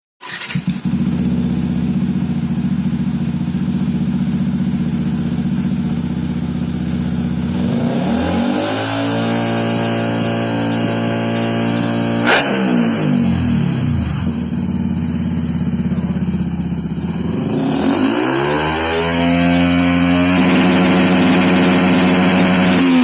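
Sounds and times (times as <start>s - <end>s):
motorcycle engine idling and revving: 0.2s - 23.0s.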